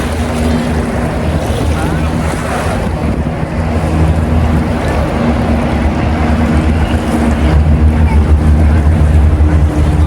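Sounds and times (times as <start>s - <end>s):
boat engine running: 0.0s - 10.0s
water rushing: 0.0s - 10.0s.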